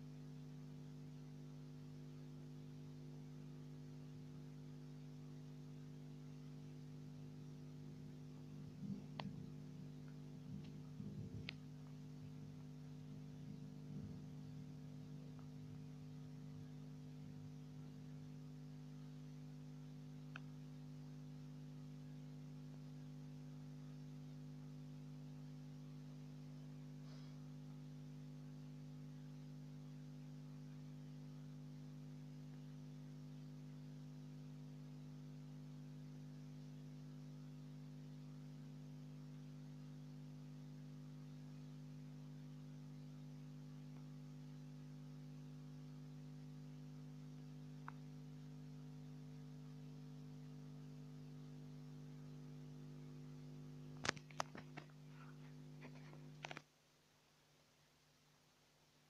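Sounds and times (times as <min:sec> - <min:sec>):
faint steady hum with hiss: 0:00.0 - 0:59.0.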